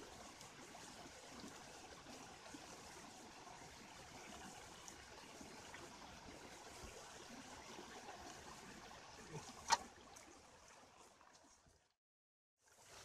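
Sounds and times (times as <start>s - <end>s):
stream trickling over rocks: 0.0s - 12.0s, 12.6s - 13.0s.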